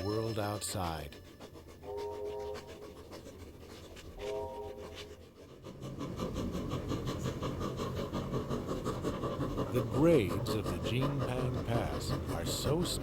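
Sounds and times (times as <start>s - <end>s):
steam locomotive rhythmic rumble: 0.0s - 13.0s.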